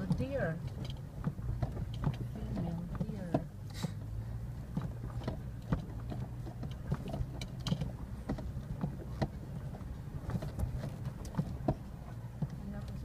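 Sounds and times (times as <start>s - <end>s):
knocks and rattles of vehicle: 0.0s - 13.0s
vehicle engine running low: 0.0s - 13.0s.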